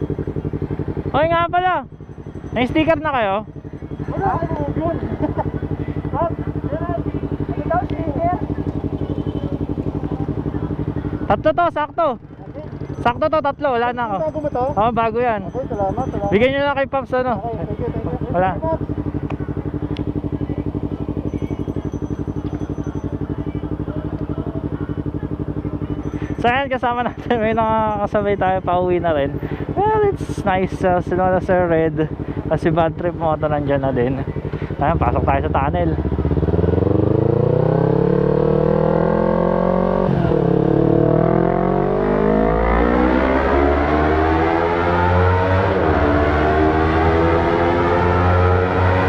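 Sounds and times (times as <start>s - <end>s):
motorcycle engine idling: 0.0s - 42.8s.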